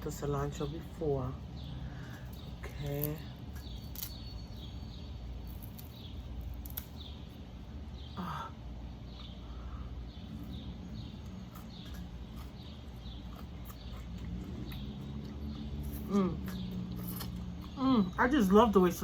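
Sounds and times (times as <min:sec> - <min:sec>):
bird chirping: 0:00.0 - 0:19.0
low background hum: 0:00.0 - 0:19.0.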